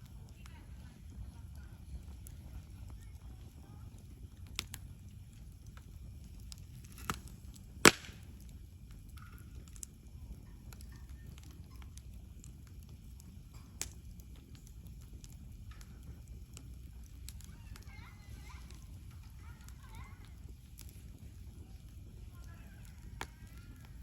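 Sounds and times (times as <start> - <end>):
campfire crackling: 0.0 - 24.0
low steady rumble: 0.0 - 24.0
sharp pops of fire: 1.1 - 24.0.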